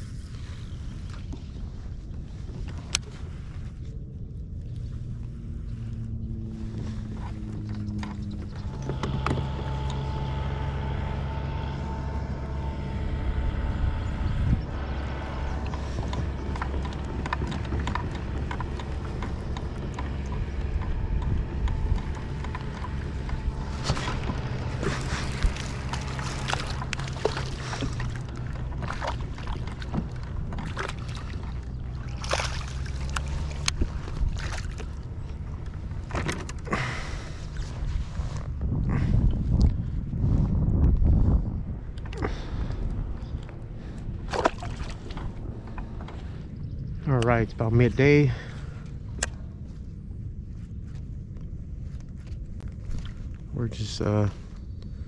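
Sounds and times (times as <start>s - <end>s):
boat motor humming: 0.0s - 55.0s.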